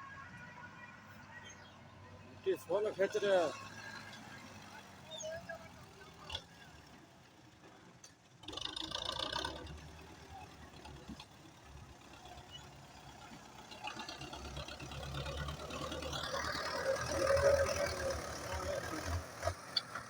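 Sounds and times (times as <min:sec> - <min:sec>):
tractor diesel engine running: 0:02.7 - 0:20.0.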